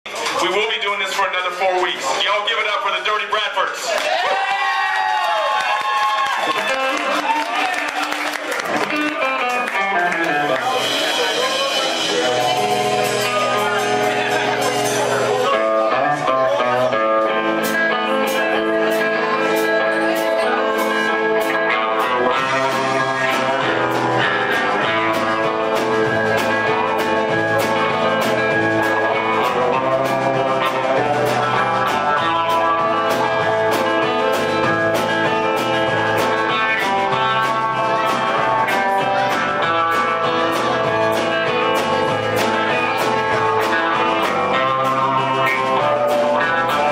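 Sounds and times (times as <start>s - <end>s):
live band with guitar-led tune: 0.1s - 46.9s.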